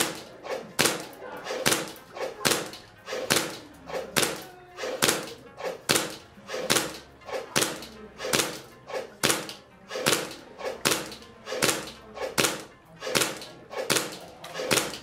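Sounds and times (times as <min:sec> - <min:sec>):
airsoft pistol shots: 0:00.0 - 0:15.0.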